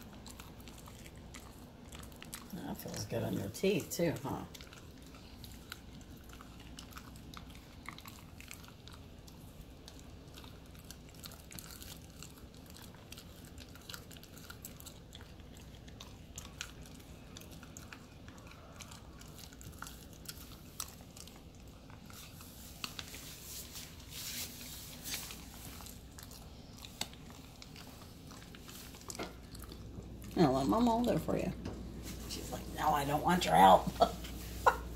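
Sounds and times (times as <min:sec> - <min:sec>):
puppy crunching bones: 0:00.0 - 0:31.9.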